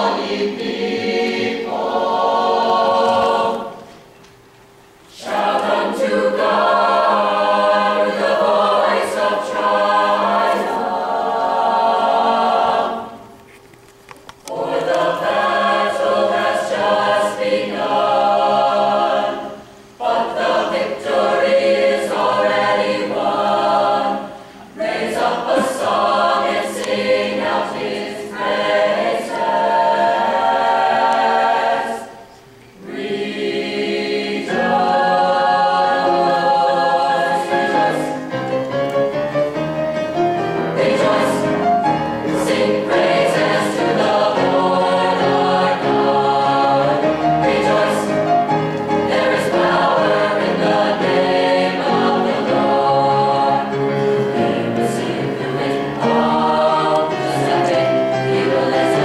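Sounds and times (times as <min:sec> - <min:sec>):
mixed choir singing a cappella: 0:00.0 - 0:03.9, 0:05.1 - 0:13.4, 0:14.4 - 0:39.3, 0:40.1 - 0:59.0.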